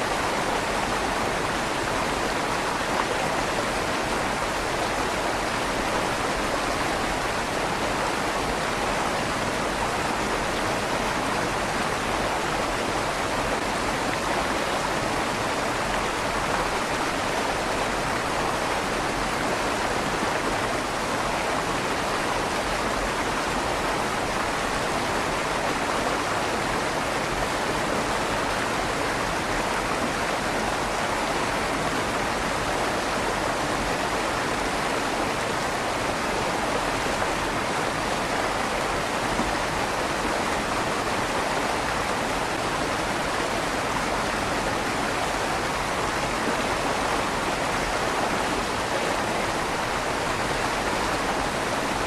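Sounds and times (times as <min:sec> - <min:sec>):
river water flowing through tunnel: 0:00.0 - 0:52.0.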